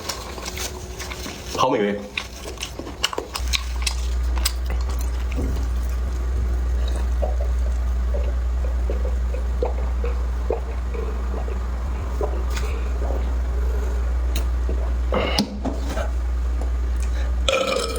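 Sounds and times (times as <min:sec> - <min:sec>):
person chewing food: 0:00.0 - 0:17.9
steady low hum: 0:00.0 - 0:17.9
wet mouth sounds: 0:02.1 - 0:17.9.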